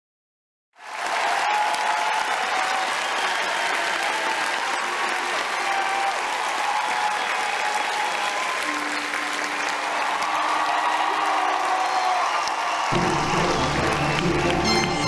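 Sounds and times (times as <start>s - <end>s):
crowd applauding: 0.8s - 15.0s.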